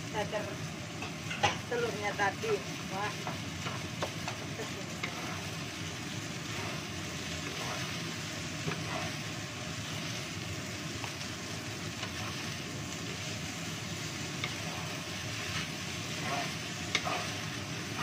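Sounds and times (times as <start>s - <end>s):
fried rice sizzling in a wok: 0.0s - 18.0s
wooden spatula scraping a wok: 2.8s - 18.0s.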